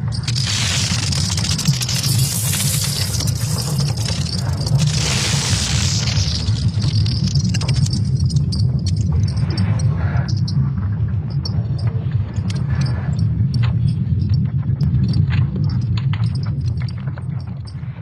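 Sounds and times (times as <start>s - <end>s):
crackles and clicks: 0.0s - 18.0s
deep steady rumble: 0.0s - 18.0s.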